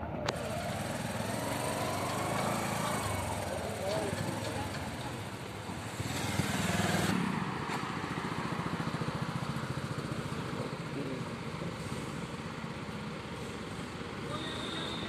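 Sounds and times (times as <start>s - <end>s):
tractor diesel engine idling: 0.3s - 6.1s, 8.1s - 15.0s
motorcycle passing by: 0.3s - 15.0s.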